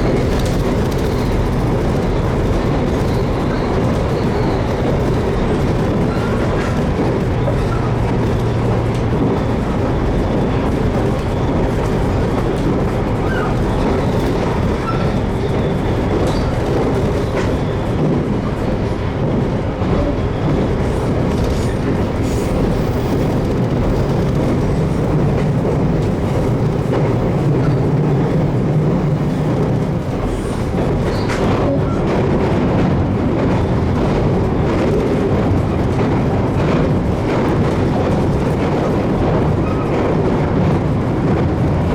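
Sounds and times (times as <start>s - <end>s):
low train hum: 0.0s - 41.9s
train wheels rumbling on rail: 0.0s - 41.9s.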